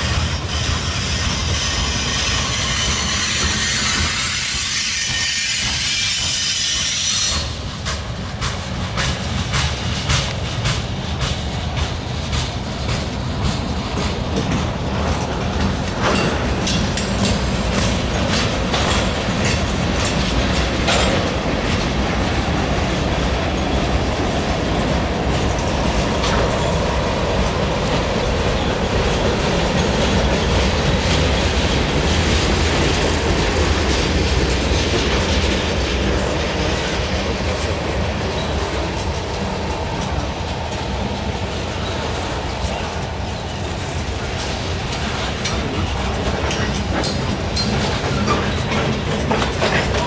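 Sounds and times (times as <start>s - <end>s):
clickety-clack over rail joints: 0.0s - 50.0s
freight train wheels rumbling: 0.0s - 50.0s.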